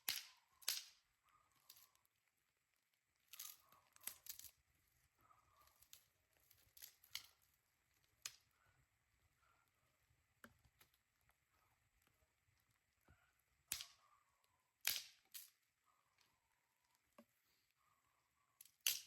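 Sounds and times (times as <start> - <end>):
faint snaps and crackles: 0.0 - 19.0.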